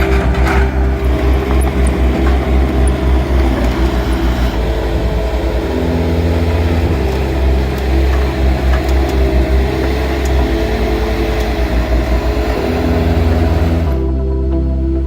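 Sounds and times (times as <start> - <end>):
heavy equipment engine running: 0.0 - 14.9.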